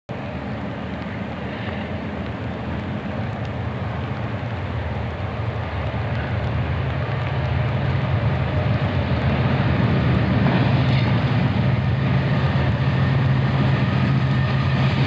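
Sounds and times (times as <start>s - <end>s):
diesel locomotive engines rumbling: 0.1s - 15.0s.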